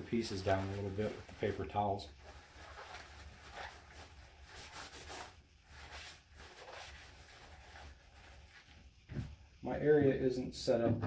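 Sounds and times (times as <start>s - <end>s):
paper towel rubbing and rustling: 0.0s - 10.0s.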